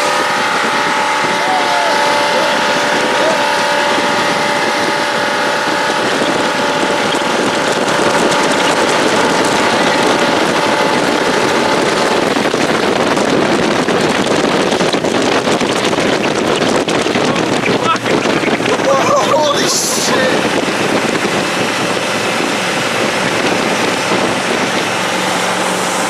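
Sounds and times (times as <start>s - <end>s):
boat engine: 0.0s - 26.0s
wind and spray on microphone: 0.0s - 26.0s.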